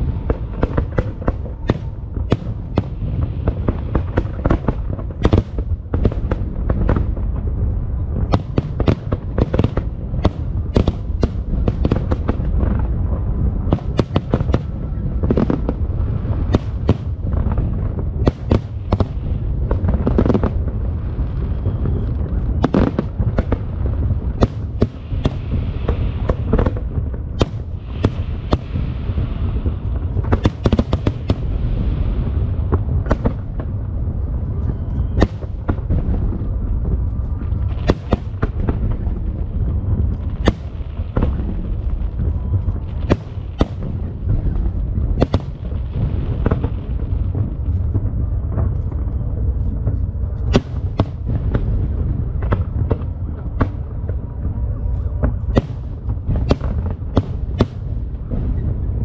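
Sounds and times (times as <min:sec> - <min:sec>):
deep rumble of booms: 0:00.0 - 0:59.0
hissing crackle of fireworks: 0:00.0 - 0:59.0.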